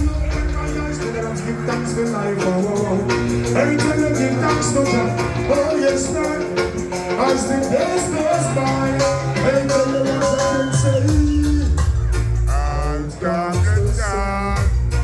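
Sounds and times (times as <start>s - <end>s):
song with singing over a beat: 0.0s - 15.0s.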